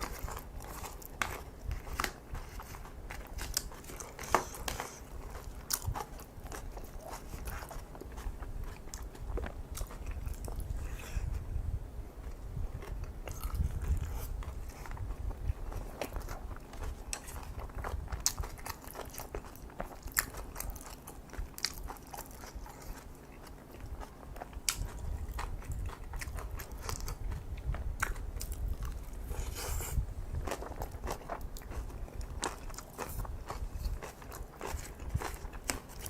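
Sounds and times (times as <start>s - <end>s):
person chewing food: 0.0s - 11.5s, 12.1s - 36.0s.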